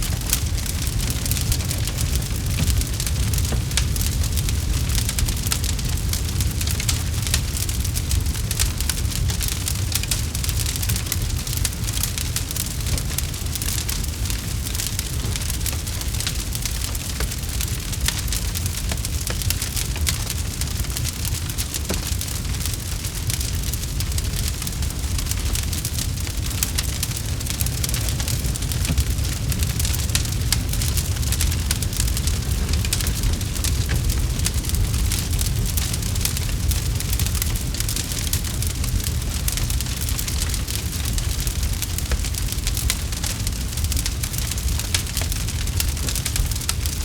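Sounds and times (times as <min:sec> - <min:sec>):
campfire crackling: 0:00.0 - 0:47.0
low steady rumble: 0:00.0 - 0:47.0.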